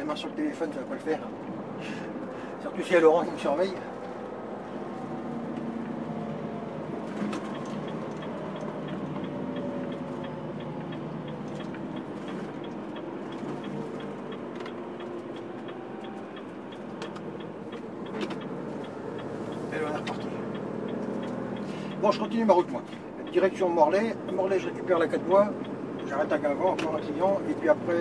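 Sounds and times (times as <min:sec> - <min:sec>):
diesel engine hum: 0:00.0 - 0:28.0
road noise inside cab: 0:00.0 - 0:28.0
turn signal ticking: 0:00.0 - 0:28.0.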